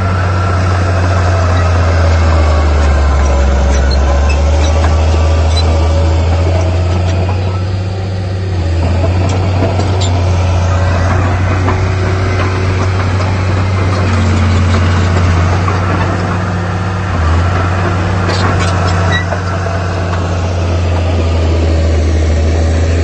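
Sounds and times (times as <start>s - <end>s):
heavy diesel machinery engine: 0.0s - 23.0s.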